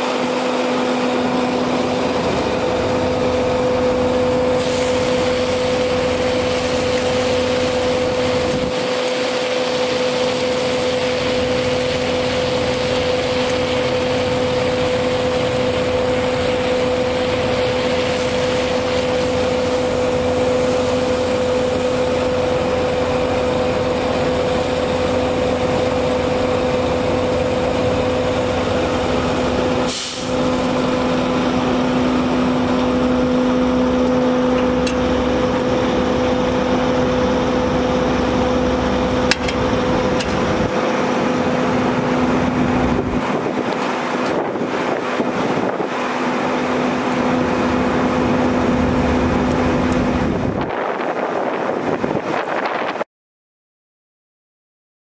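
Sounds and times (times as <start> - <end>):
water hissing from nozzle: 0.0 - 33.3, 35.2 - 48.6
water pump humming: 0.0 - 53.0.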